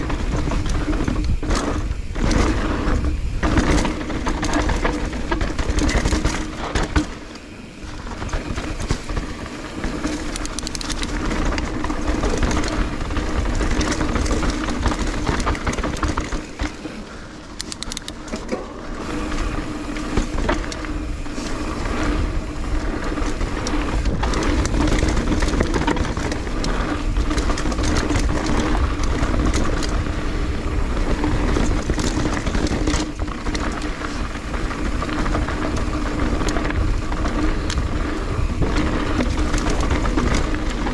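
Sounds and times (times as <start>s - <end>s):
bike rattling and clicking: 0.0s - 40.9s
bike tyres rolling over dirt: 0.0s - 40.9s.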